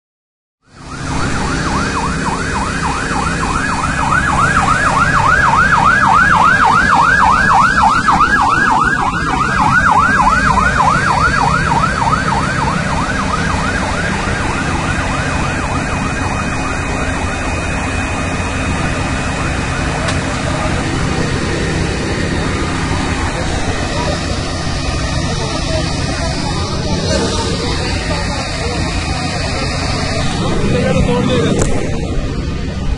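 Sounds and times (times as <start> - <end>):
low rumble: 0.6 - 32.9
siren yelping: 0.7 - 32.9.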